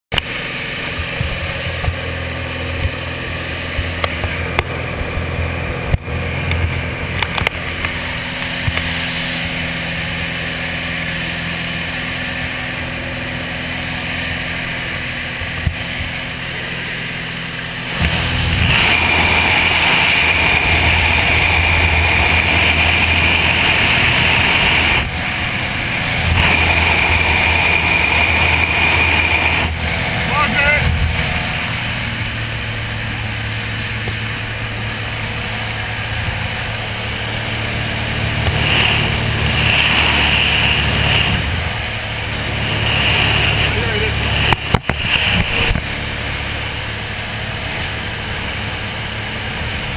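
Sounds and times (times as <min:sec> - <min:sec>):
propeller plane engine droning: 0:00.1 - 0:49.9
rush of wind: 0:00.1 - 0:49.9.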